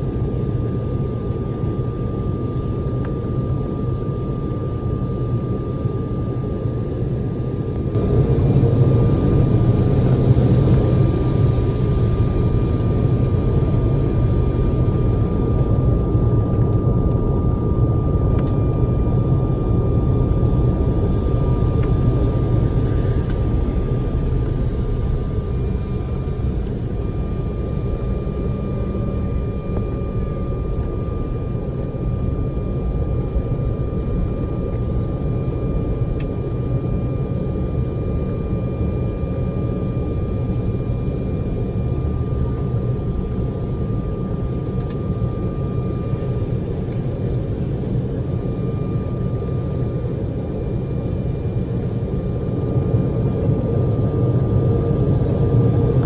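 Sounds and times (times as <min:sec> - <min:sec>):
jet engine rumble: 0:00.0 - 0:56.0
thin steady whine: 0:00.0 - 0:56.0.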